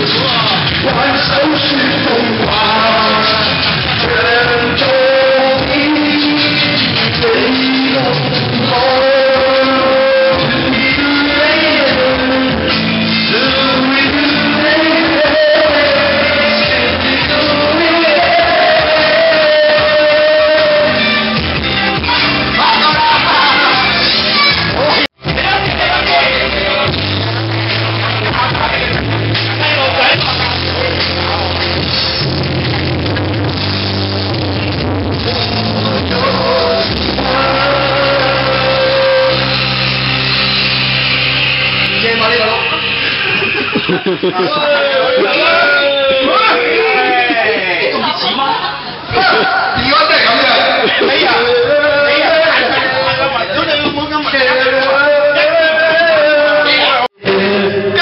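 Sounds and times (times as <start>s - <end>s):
man singing into microphone: 0.0s - 33.3s, 35.1s - 41.2s, 49.2s - 58.0s
backing track music: 0.0s - 58.0s.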